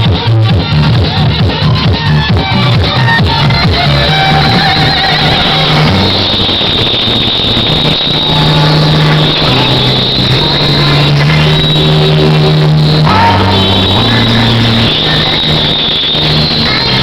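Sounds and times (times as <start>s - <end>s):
loud electronic music: 0.0s - 17.0s.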